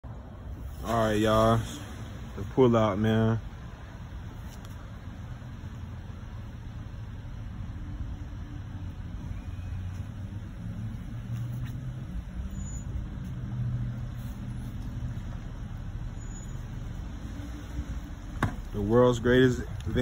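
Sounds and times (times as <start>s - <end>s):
van engine low rumble: 0.0s - 20.0s.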